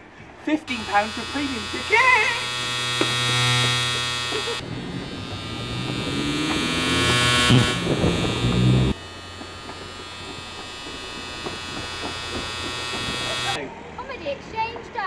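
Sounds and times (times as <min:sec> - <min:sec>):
electric hair clippers buzzing: 0:00.6 - 0:13.6.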